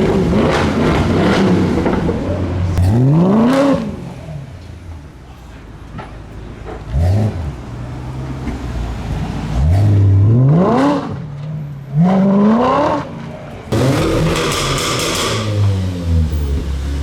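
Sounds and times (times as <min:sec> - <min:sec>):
car engine revving: 0:00.0 - 0:04.6, 0:06.6 - 0:17.0.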